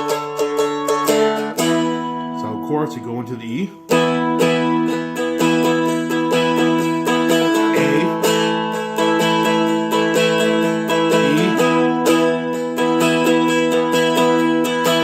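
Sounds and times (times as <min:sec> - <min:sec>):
strummed dulcimer with droning strings: 0:00.0 - 0:03.2, 0:03.9 - 0:15.0.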